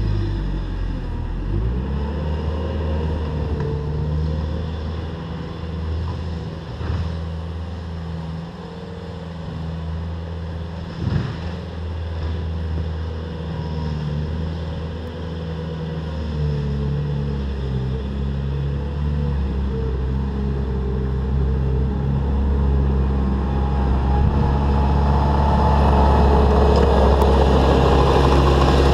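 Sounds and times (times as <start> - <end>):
diesel engine under load: 0.0 - 28.9.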